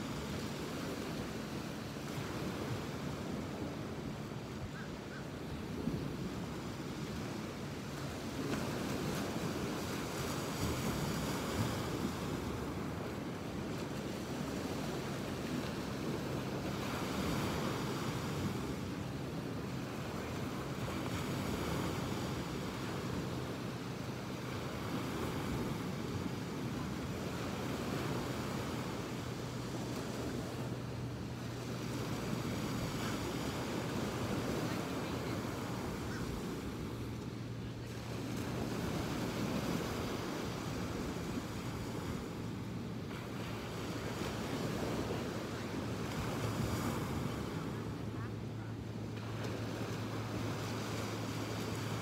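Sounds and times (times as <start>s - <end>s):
ocean surf washing ashore: 0.0s - 52.0s.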